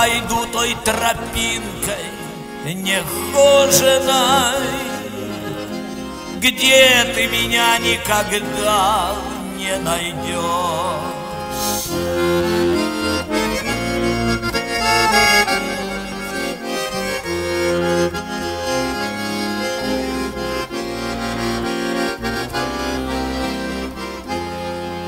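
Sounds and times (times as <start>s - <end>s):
accordion melody: 0.0s - 25.0s
bass line: 0.0s - 25.0s.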